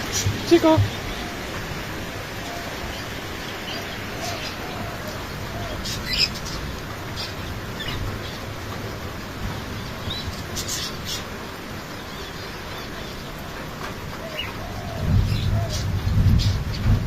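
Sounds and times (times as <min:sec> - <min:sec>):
rain hissing: 0:00.0 - 0:17.0
small birds chirping: 0:00.0 - 0:17.0.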